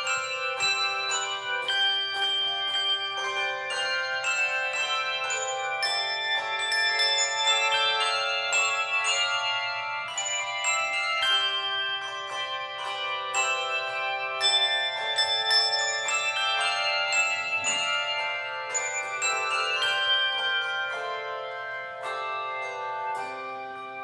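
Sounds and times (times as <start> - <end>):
handbell choir playing: 0.0 - 24.0.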